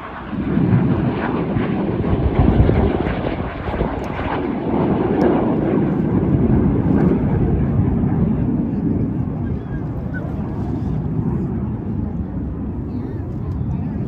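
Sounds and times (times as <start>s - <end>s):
aircraft flying by: 0.0s - 14.0s.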